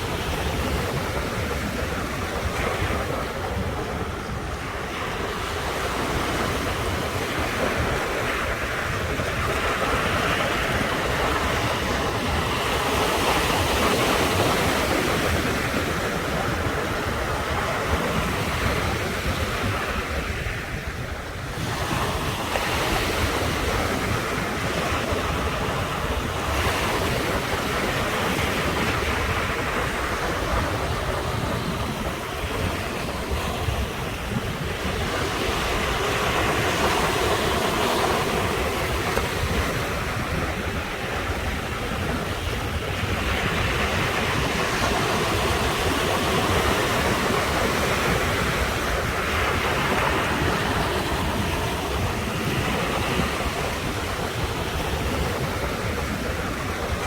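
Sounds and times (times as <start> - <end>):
sea waves breaking on shore: 0.0 - 57.0
wind rumble on microphone: 0.0 - 57.0.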